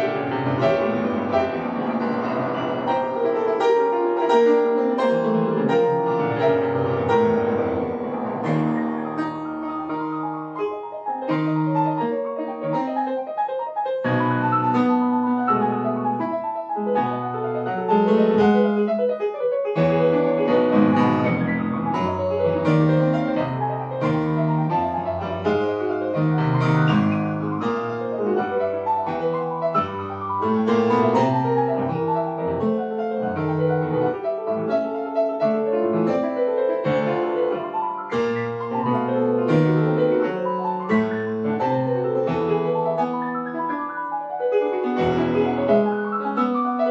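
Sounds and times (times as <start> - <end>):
classical piano piece: 0.0 - 46.9.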